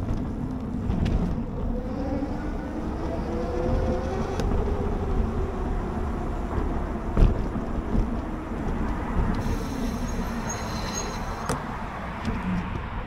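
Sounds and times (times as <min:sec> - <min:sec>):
wind buffeting microphone: 0:00.0 - 0:10.5
tyre and road noise: 0:00.0 - 0:13.0.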